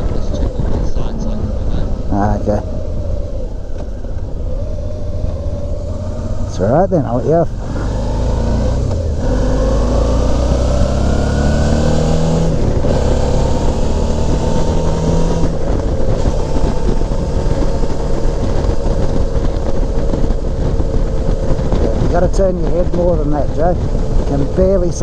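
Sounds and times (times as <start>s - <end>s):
motorcycle engine accelerating: 0.0s - 25.0s
wind rush on microphone: 0.0s - 25.0s.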